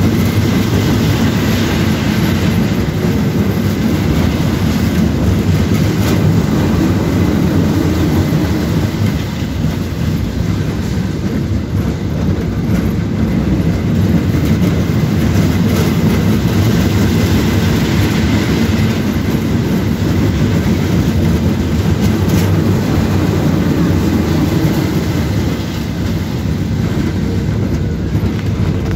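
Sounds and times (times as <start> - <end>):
roller coaster wheels rumbling: 0.0 - 28.9.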